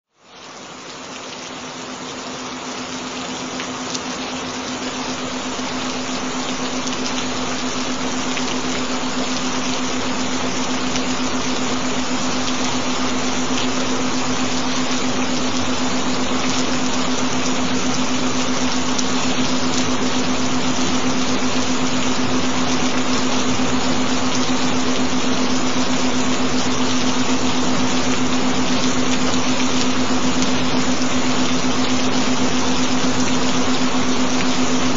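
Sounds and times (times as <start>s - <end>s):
rain hissing: 0.1s - 34.9s
steady low hum tone: 3.6s - 34.9s.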